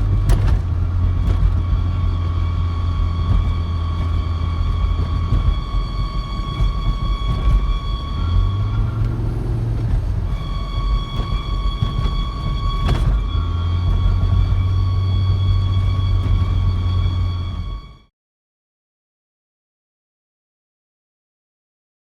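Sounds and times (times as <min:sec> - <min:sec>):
car high-pitched squeal: 0:00.0 - 0:18.1
car rumbling on the road: 0:00.0 - 0:18.1.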